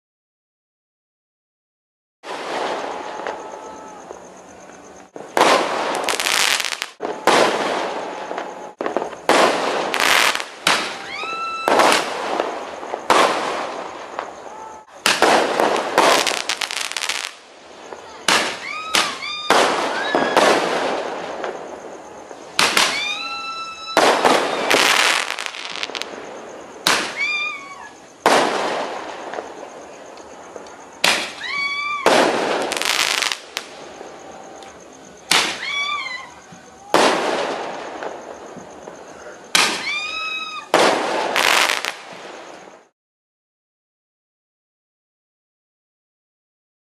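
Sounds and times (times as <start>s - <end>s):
fireworks bangs and crackling: 2.2s - 42.9s
fireworks whistling: 2.2s - 42.9s.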